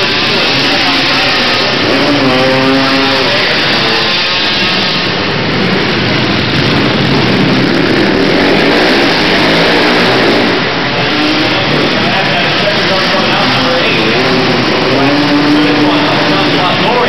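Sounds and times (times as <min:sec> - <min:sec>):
quad engines revving: 0:00.0 - 0:17.0.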